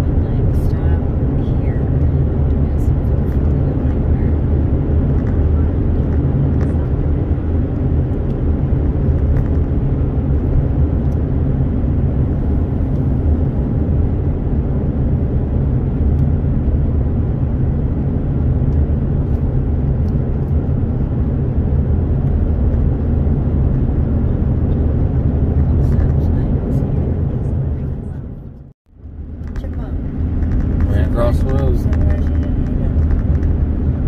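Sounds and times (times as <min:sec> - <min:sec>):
engine and tyre rumble in car: 0:00.0 - 0:34.0.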